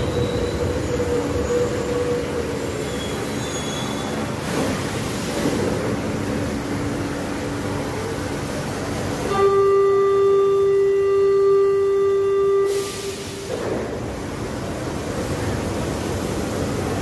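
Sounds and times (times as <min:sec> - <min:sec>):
subway train slowing to a stop: 0:00.0 - 0:17.0.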